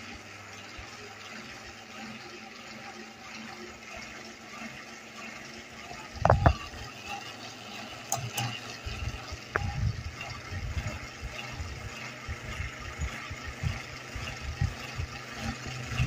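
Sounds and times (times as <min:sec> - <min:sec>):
ceiling fan whirring: 0:00.0 - 0:16.0.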